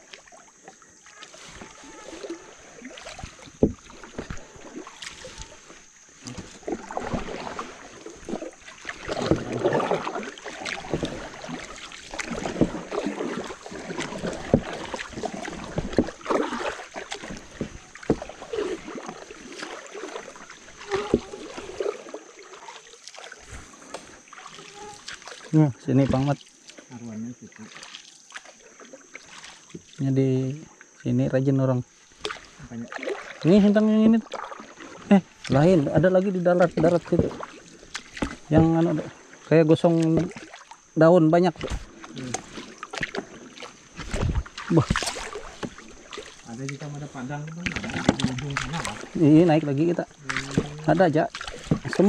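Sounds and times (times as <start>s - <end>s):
paddles splashing in water: 0.0s - 52.0s.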